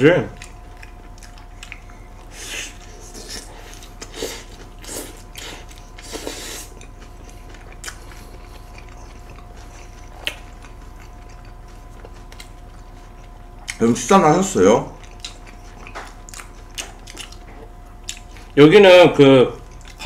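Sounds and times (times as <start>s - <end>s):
people chewing burgers: 0.0s - 20.0s.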